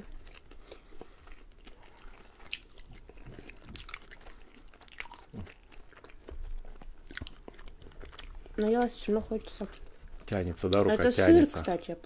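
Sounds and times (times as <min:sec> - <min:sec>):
chewing crunchy food: 0:00.0 - 0:10.9.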